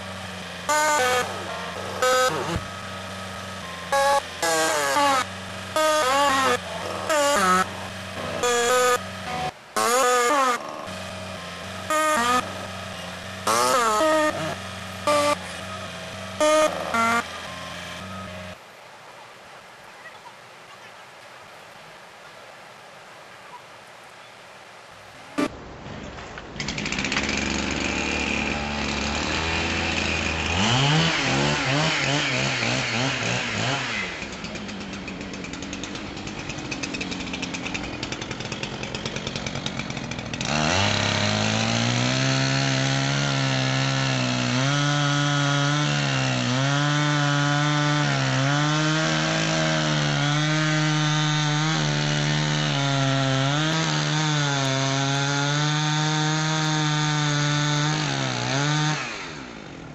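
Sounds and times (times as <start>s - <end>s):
chainsaw cutting wood: 0.0s - 18.6s, 26.6s - 59.9s.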